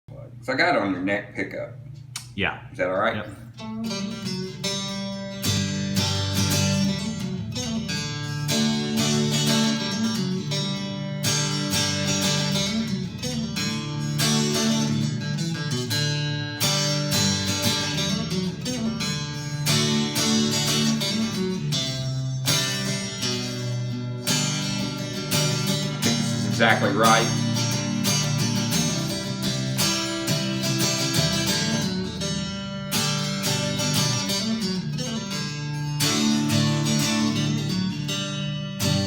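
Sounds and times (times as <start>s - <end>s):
clean electric guitar chords: 3.5s - 39.0s.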